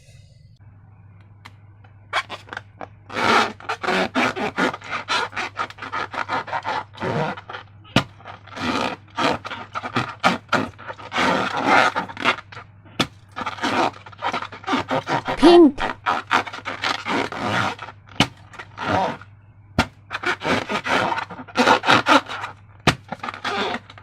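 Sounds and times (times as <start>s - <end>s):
rubbing and scraping balloons: 2.1s - 24.0s.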